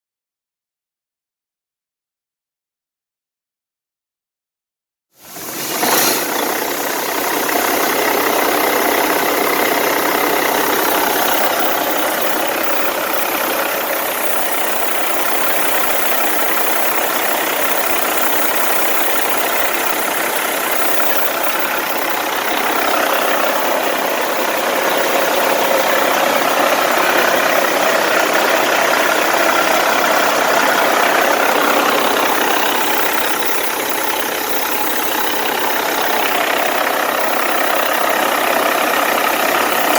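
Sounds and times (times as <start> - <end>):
diesel engine idling: 5.2 - 39.9.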